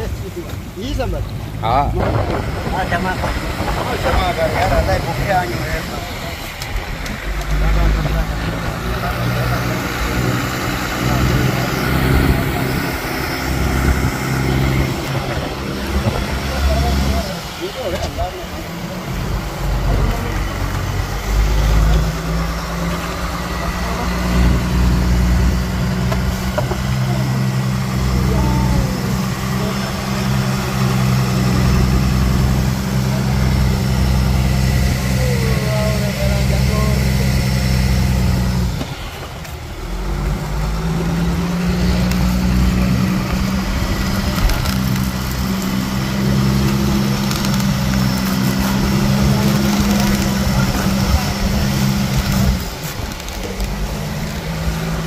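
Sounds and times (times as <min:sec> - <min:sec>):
boat engine droning: 0:00.0 - 0:55.0
water washing along hull: 0:00.0 - 0:55.0.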